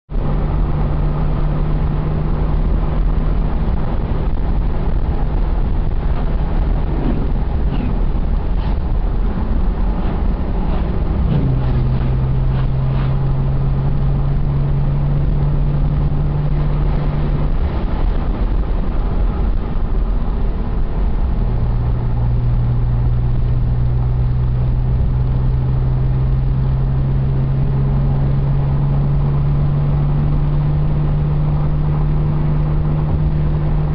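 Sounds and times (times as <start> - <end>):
car engine and road noise: 0.1 - 33.9.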